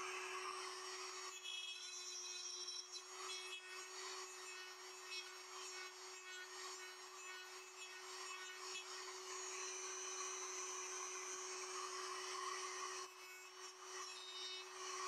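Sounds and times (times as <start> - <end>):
rotary tool grinding plastic: 0.0 - 15.0.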